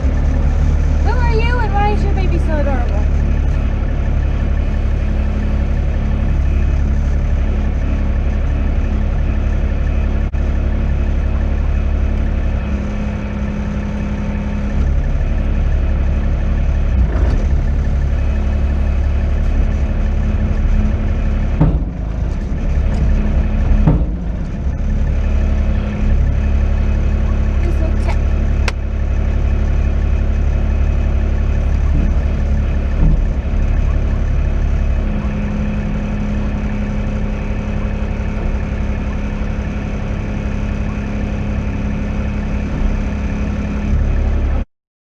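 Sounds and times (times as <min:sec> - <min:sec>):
loader engine running: 0:00.0 - 0:44.7.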